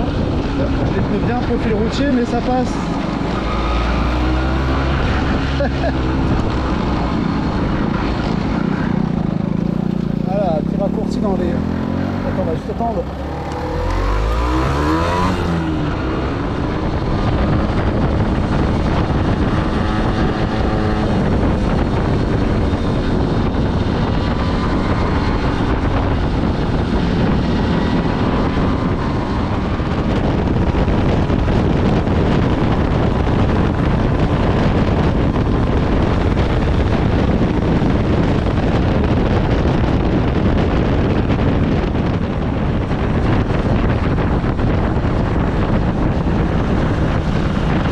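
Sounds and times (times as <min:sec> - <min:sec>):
motorcycle engine revving: 0:00.0 - 0:47.9
wind buffeting microphone: 0:00.0 - 0:47.9.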